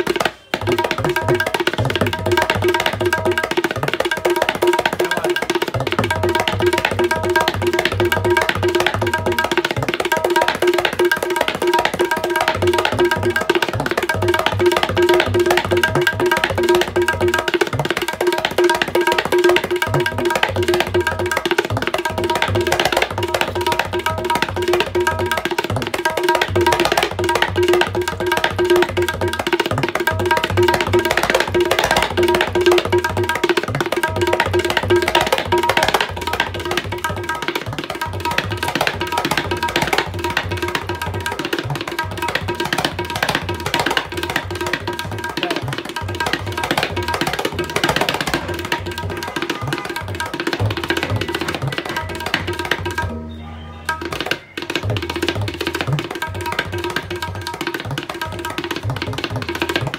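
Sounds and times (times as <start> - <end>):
rapid tabla finger strokes: 0.0 - 59.9.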